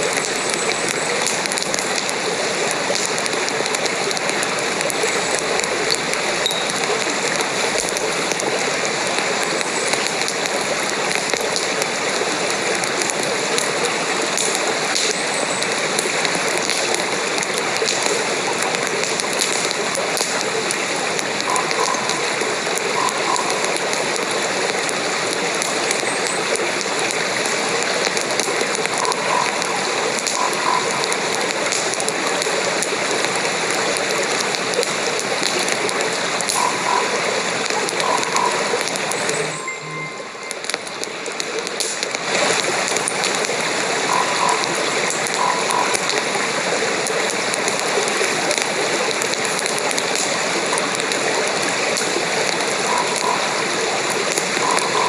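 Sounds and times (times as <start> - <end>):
dense rain patter: 0.0 - 55.0.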